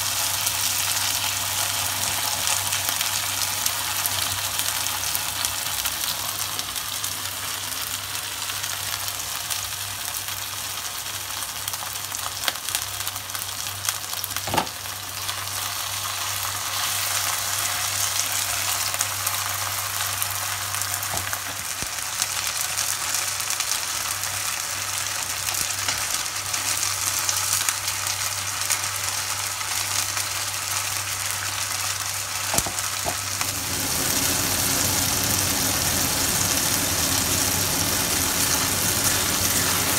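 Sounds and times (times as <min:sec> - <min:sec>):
food sizzling in oil in a pan: 0:00.0 - 0:39.9.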